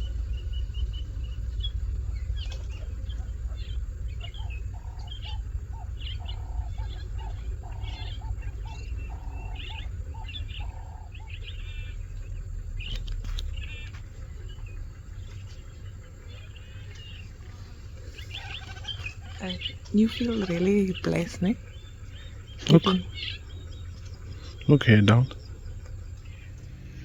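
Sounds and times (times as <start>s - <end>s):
bird cooing: 0.0s - 27.0s
low rumble: 0.0s - 27.0s
small birds chirping: 0.0s - 27.0s.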